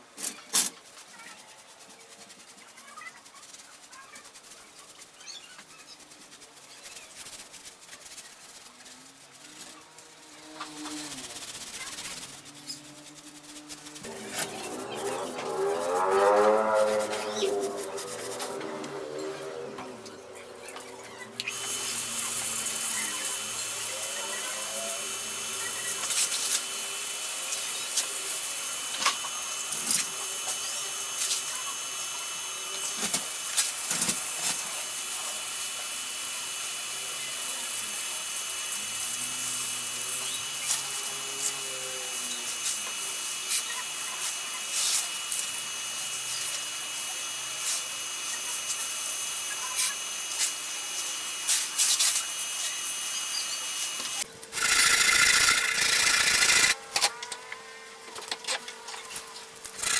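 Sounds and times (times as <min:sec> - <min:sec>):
sewing machine whirring: 0:00.2 - 0:57.2, 0:59.6 - 0:59.9.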